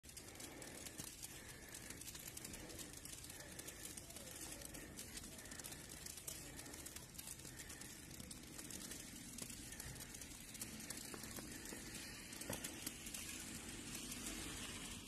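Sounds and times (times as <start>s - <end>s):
snow ticks and crackles: 0.0s - 15.0s.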